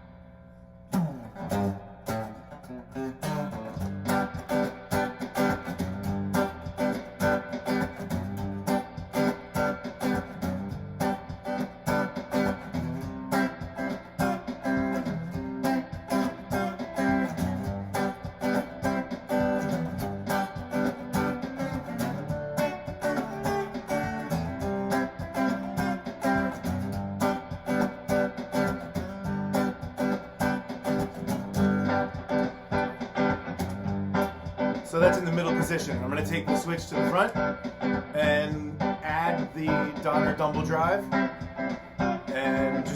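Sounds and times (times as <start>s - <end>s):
clean electric guitar: 0.0s - 42.9s
looped drum beat: 0.9s - 42.9s.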